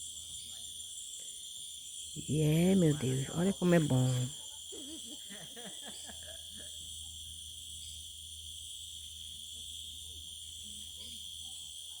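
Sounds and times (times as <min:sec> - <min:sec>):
cicada drone: 0:00.0 - 0:12.0.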